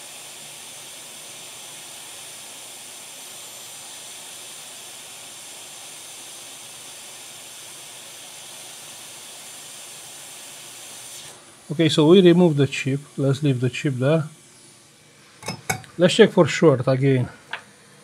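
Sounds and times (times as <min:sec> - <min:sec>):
hot air blower hissing: 0:00.0 - 0:18.0.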